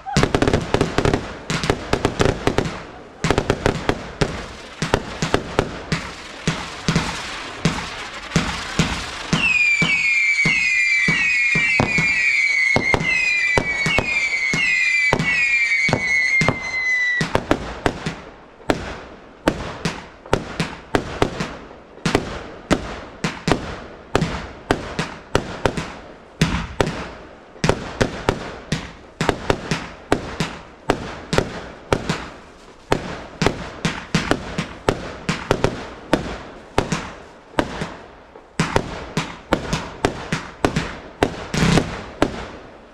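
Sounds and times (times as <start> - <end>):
sharp firework bangs: 0.0 - 42.8
fireworks crackling: 0.0 - 42.9
whistling fireworks: 0.0 - 42.9.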